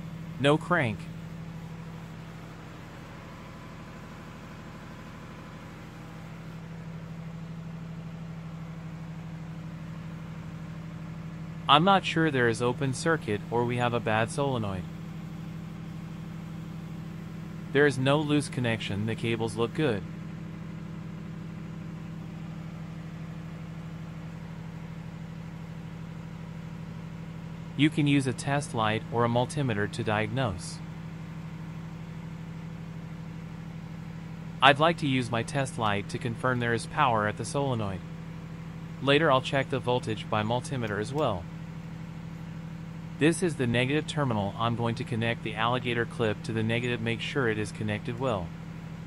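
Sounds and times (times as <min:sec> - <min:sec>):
machinery humming with pulse: 0:00.0 - 0:49.0.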